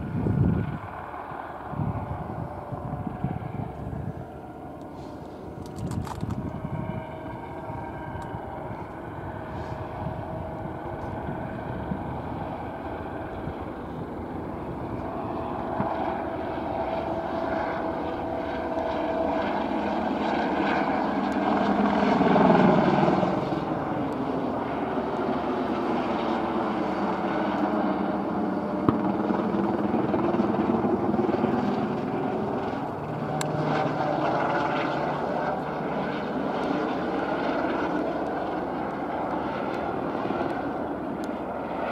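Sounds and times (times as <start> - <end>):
helicopter turbine and rotors: 0.0 - 41.9.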